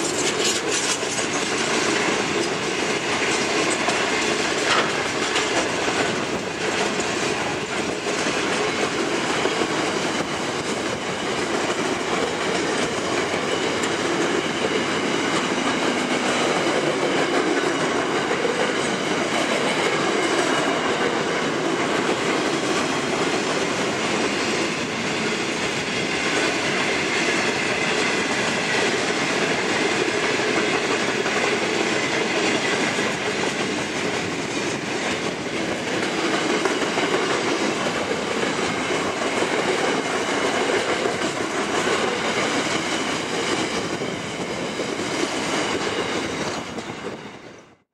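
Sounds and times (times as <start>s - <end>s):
steel wheels running on rails: 0.0s - 47.8s.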